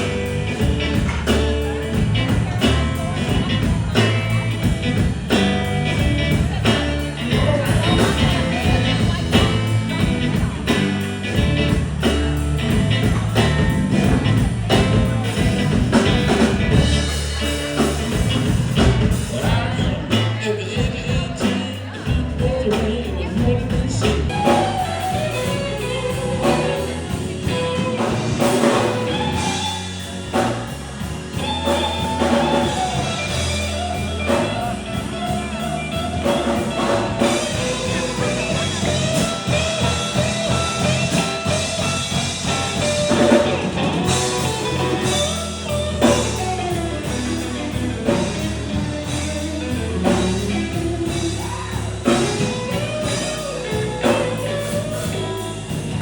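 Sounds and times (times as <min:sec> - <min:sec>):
bass notes: 0:00.0 - 0:56.0
drum kit: 0:00.0 - 0:56.0
guitar melody: 0:00.0 - 0:56.0.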